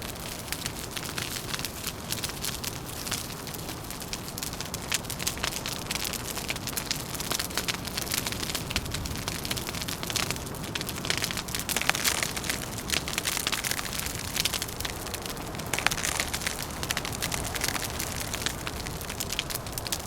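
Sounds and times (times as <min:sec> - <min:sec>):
log fire crackling: 0:00.0 - 0:20.0
low rumble of wind: 0:00.0 - 0:20.0.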